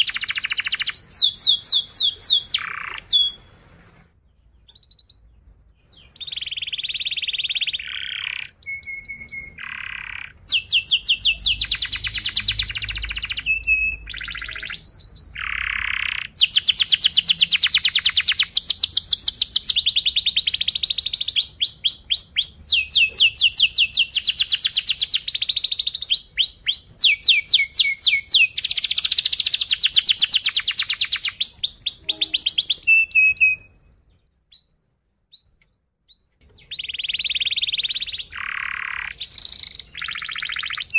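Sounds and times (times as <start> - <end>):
canary singing trills: 0.0 - 3.6, 4.2 - 40.9.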